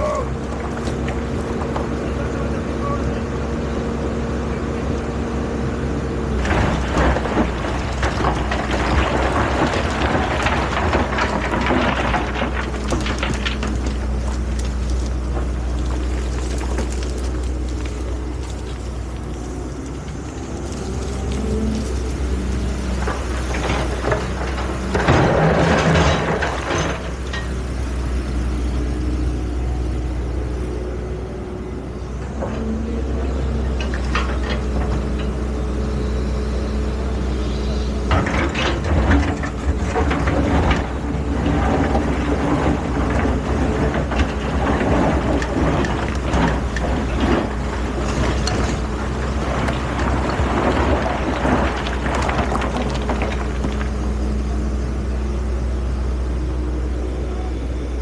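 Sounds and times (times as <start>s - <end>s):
excavator diesel engine droning: 0.0s - 58.0s
excavator working noise: 0.0s - 58.0s.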